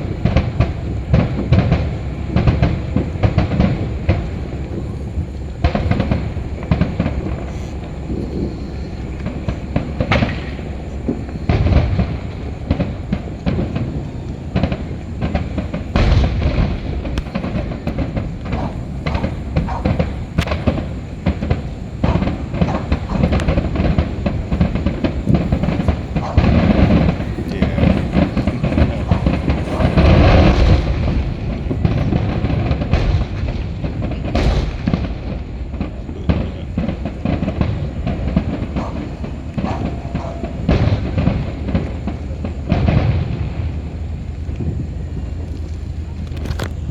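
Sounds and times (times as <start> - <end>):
fireworks bangs and crackles: 0.0 - 46.9
low rumble: 0.0 - 46.9.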